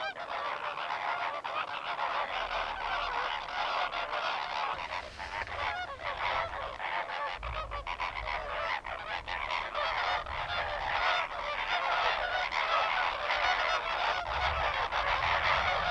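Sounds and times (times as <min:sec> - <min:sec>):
flamingos honking in chorus: 0:00.0 - 0:15.9.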